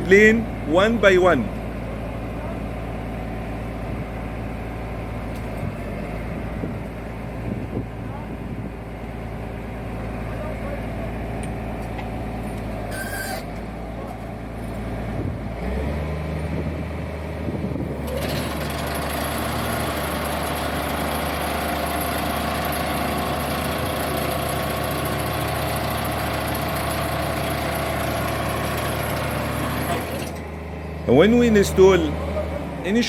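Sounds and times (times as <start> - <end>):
diesel machinery running: 0.0 - 33.0.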